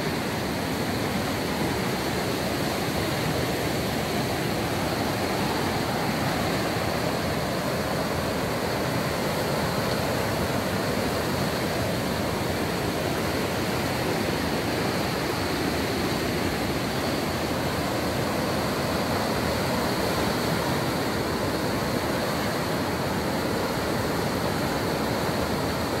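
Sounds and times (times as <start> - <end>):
water rushing through rapids: 0.0 - 26.0.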